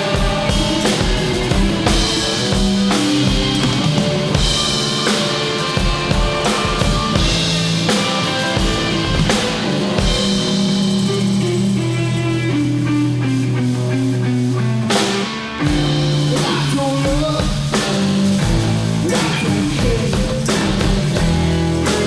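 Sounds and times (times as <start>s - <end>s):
bass line: 0.0s - 22.0s
drum kit: 0.0s - 22.0s
electric guitar: 0.0s - 22.0s.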